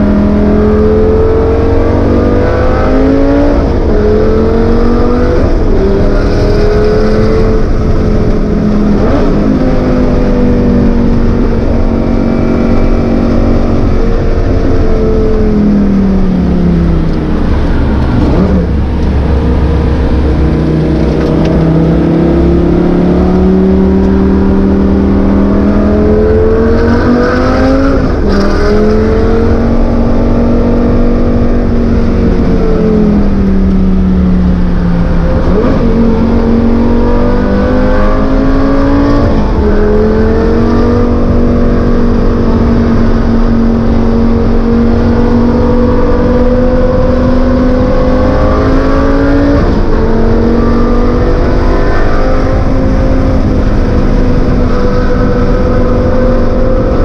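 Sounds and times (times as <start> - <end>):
car engine revving with gear changes: 0.0 - 57.0.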